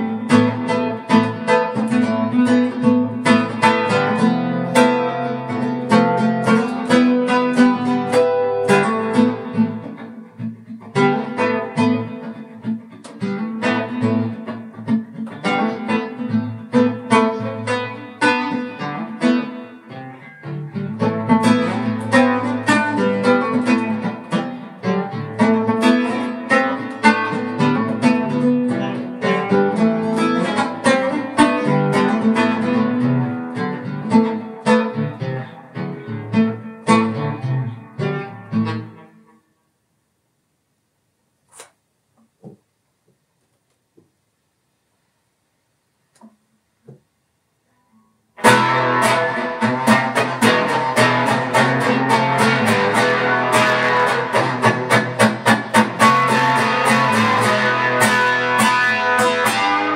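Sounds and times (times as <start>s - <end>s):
plucked guitar music: 0.0s - 39.5s, 47.8s - 59.9s.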